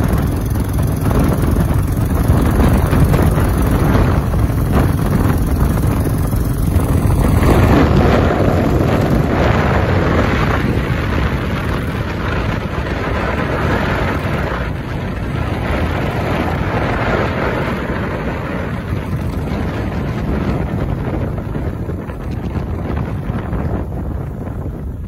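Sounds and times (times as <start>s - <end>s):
motorcycle engine cruising: 0.0s - 25.0s
wind noise on microphone: 0.0s - 25.0s.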